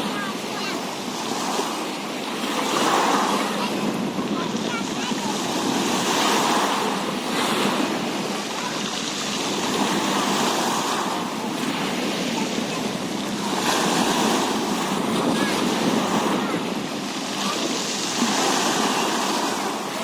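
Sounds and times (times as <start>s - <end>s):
rushing splashing water: 0.0s - 20.0s
wind buffeting microphone: 0.0s - 20.0s.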